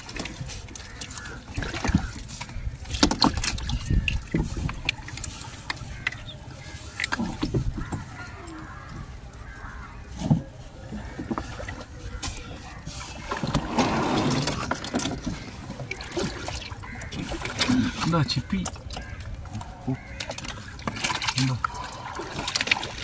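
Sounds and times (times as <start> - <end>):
water sounds: 0.0 - 23.0.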